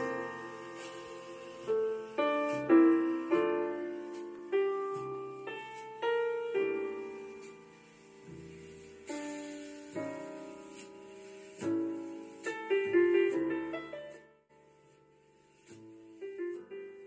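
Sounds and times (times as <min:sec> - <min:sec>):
gentle piano chords: 0:00.0 - 0:14.4.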